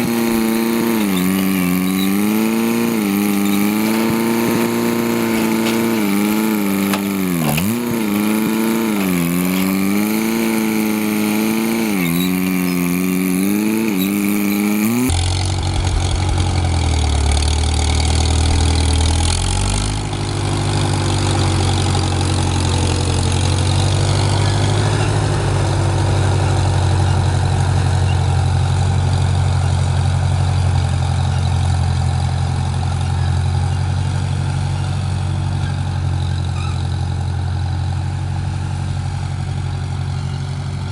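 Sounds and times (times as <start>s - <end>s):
engine revving: 0.0s - 33.7s
deeper engine running steadily: 0.0s - 40.9s.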